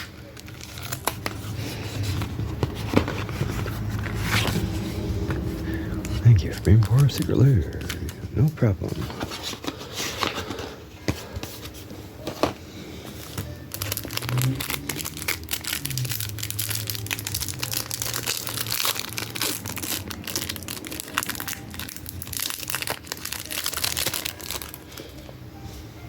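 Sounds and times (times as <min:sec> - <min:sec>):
plastic wrapping crinkling and tearing: 0:00.0 - 0:25.3.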